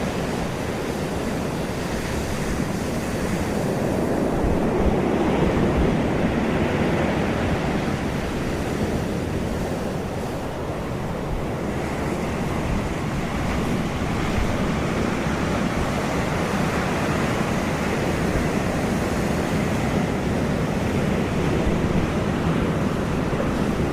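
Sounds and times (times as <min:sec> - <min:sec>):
sea surf washing onto beach: 0:00.0 - 0:23.9
wind buffeting microphone: 0:00.0 - 0:23.9.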